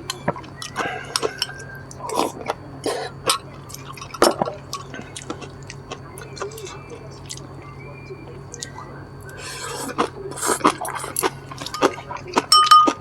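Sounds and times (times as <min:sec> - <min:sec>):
steady low hum: 0:00.0 - 0:13.0
wet chewing and crunching: 0:00.0 - 0:13.0.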